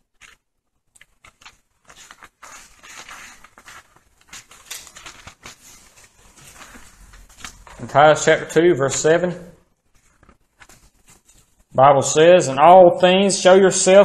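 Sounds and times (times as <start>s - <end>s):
paper pages rustling: 0.0s - 11.8s.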